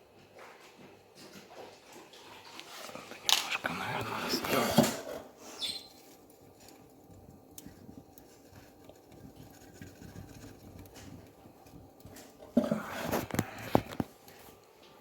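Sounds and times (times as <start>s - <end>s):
wood fire crackling: 2.5s - 15.0s.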